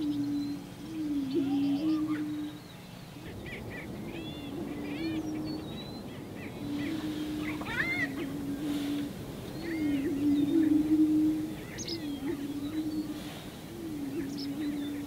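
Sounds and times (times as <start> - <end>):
prairie chickens booming: 0.0 - 15.0
short higher bird calls: 0.0 - 15.0.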